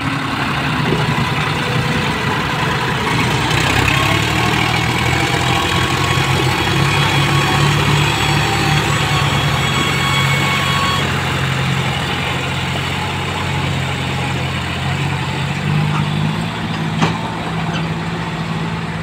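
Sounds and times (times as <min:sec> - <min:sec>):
diesel tractor engines under load: 0:00.0 - 0:19.0.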